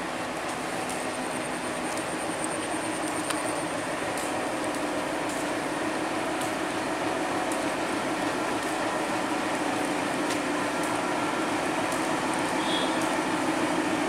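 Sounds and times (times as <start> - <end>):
light clicks of train wheels: 0.0 - 14.0
train coaches rumbling past: 0.0 - 14.0.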